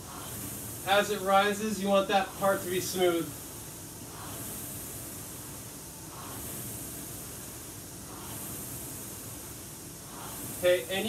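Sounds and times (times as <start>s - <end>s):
rowing machine flywheel whooshing: 0.0s - 11.0s.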